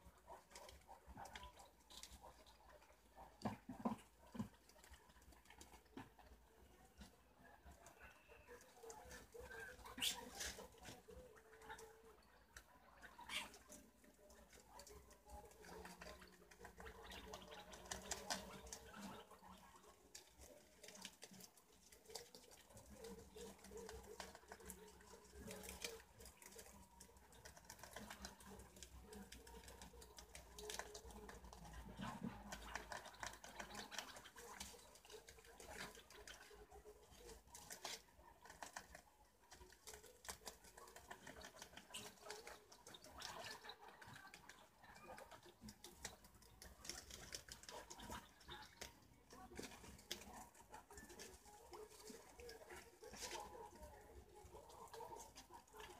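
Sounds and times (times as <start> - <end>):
animals feeding clicking: 0.0 - 55.9.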